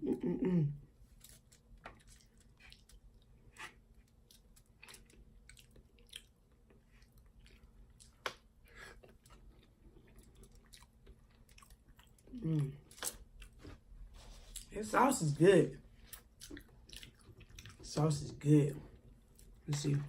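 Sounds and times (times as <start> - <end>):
chewing soft food: 0.8 - 14.7, 15.8 - 20.0.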